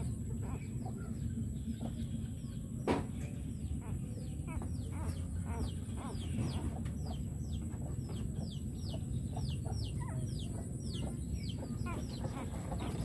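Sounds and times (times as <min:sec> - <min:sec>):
constant low rumble: 0:00.0 - 0:13.0.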